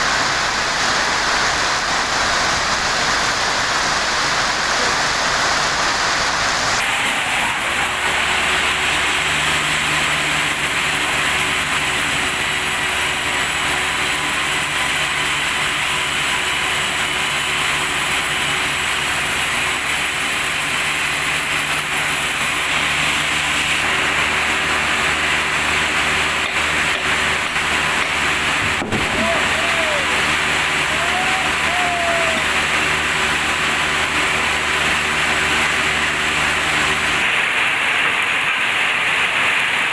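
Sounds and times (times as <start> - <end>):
noisy machinery whir: 0.0 - 39.9
sawmill engine hum: 0.0 - 39.9.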